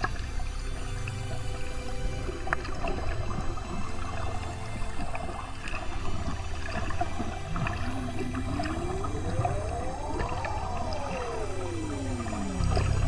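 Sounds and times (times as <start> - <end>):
low pulsing drone: 0.0 - 13.0
gliding whale-like call: 1.3 - 13.0.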